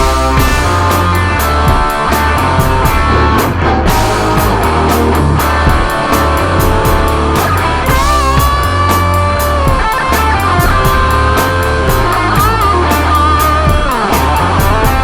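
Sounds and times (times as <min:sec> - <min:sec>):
bass line: 0:00.0 - 0:15.0
distorted electric guitar: 0:00.0 - 0:15.0
looped drum beat: 0:00.0 - 0:15.0.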